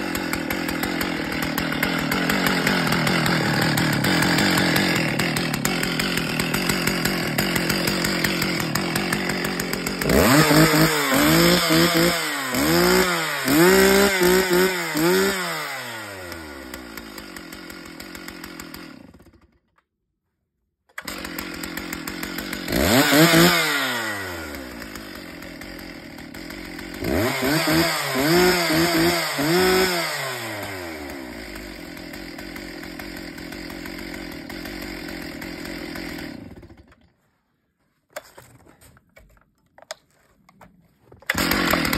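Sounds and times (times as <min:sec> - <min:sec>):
chainsaw idling and revving: 0:00.0 - 0:19.7, 0:21.0 - 0:37.1, 0:41.3 - 0:41.9.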